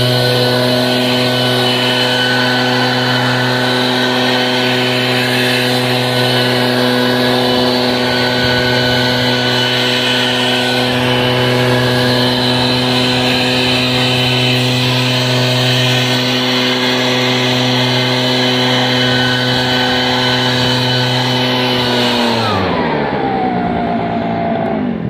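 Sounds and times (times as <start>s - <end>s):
fan rush: 0.0s - 25.0s
leaf blower engine: 0.0s - 25.0s.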